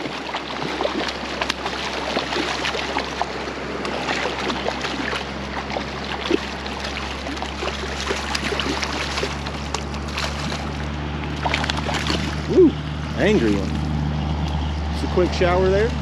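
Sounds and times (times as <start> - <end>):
fish splashing at surface: 0.0 - 14.2
flowing water rushing: 0.0 - 15.7.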